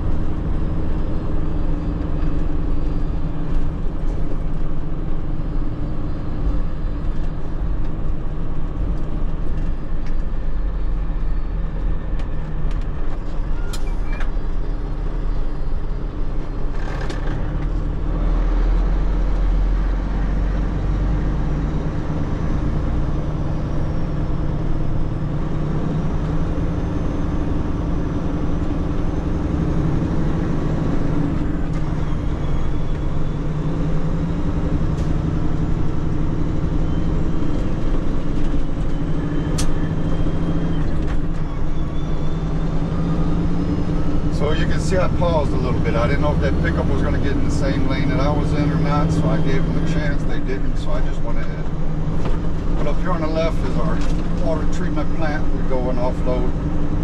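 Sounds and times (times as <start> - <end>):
truck diesel engine and road rumble: 0.0 - 57.0.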